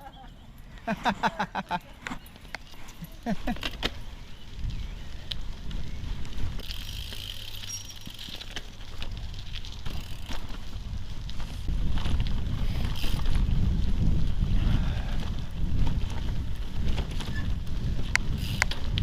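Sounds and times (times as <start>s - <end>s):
bike clicks and rattles: 0.0s - 19.0s
tyre noise on track: 0.0s - 19.0s
wind buffeting microphone: 0.5s - 7.1s, 8.9s - 19.0s.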